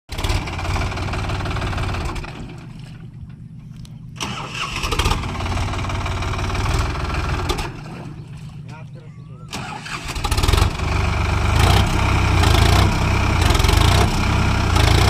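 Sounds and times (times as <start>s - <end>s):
tractor engine pulsing: 0.1s - 15.0s.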